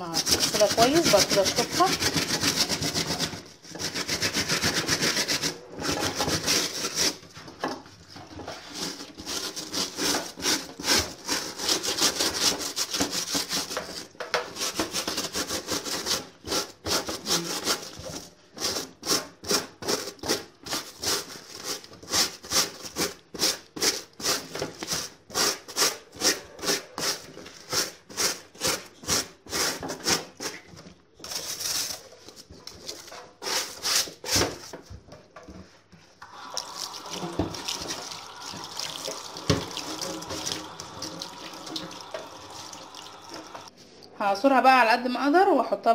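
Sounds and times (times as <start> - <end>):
brush scrubbing wet cloth: 0.0 - 7.4, 8.2 - 30.4, 36.4 - 43.7.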